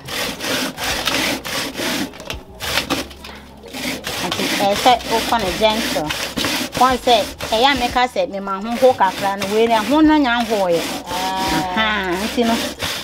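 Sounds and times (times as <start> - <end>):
grating on metal grater: 0.0 - 13.0.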